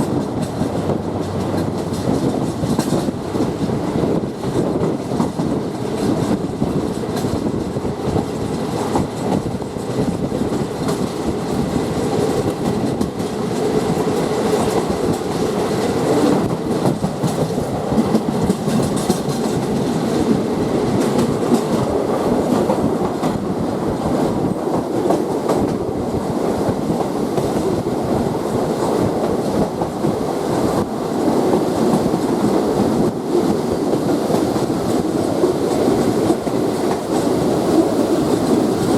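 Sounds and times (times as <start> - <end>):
train rumbling: 0.0 - 38.9
wheels clicking over rail joints: 0.0 - 38.9.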